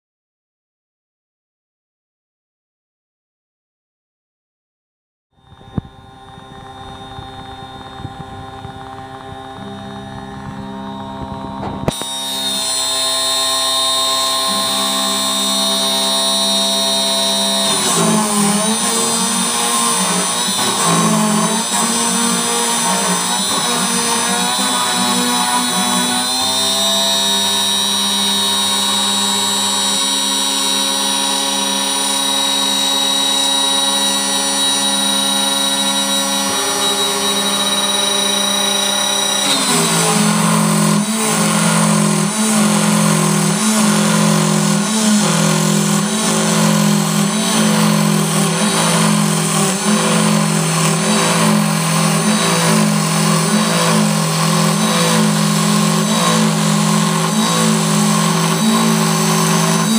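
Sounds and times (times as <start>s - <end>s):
router spindle cutting wood: 5.5s - 59.9s.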